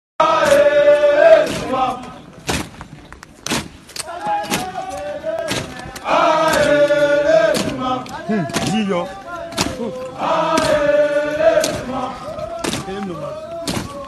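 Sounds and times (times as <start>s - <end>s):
cadets chanting in unison: 0.2s - 2.2s, 4.0s - 14.0s
boots stamping: 1.4s - 8.9s, 9.5s - 14.0s.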